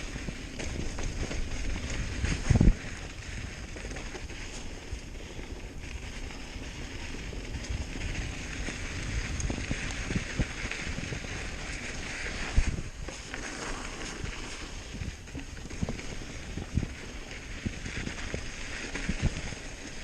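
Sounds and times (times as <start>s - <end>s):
bike knocking and rattling: 0.0s - 20.0s
bike tyres on dirt and gravel: 0.0s - 20.0s
wind buffeting microphone: 0.0s - 20.0s.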